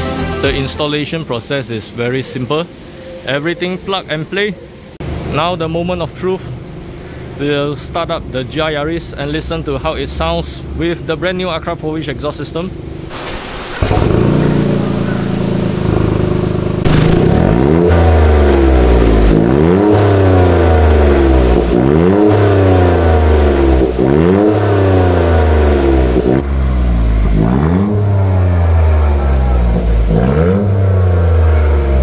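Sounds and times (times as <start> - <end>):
car engine idling and revving: 4.7 - 32.0.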